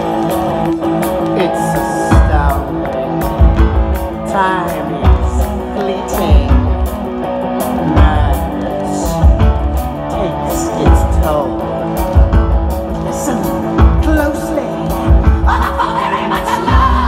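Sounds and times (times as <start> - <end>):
loud rock music with guitar: 0.0 - 17.0.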